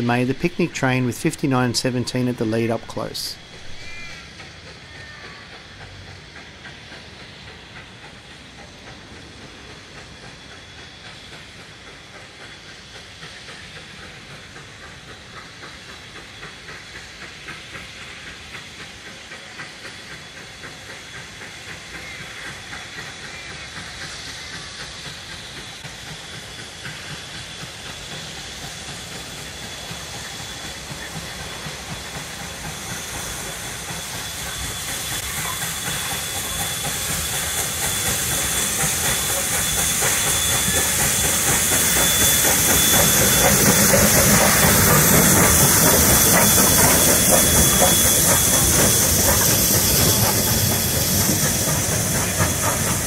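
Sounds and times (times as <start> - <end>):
steam locomotive hissing: 0.0 - 53.0.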